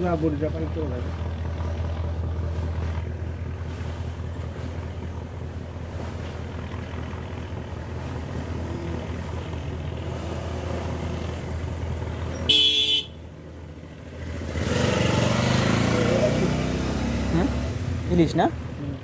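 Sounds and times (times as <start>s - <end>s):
boat diesel engine drone: 0.0s - 19.0s
water noise: 0.0s - 19.0s.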